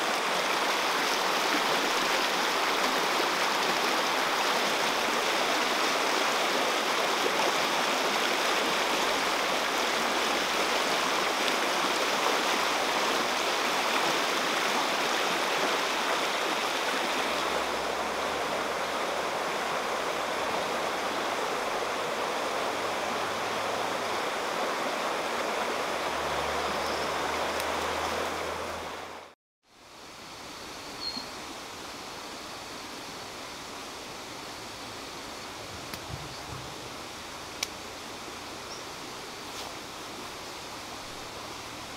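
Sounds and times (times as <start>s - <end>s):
stream rushing over rocks: 0.0s - 30.3s, 32.8s - 41.9s
quiet outdoor background: 0.0s - 41.9s.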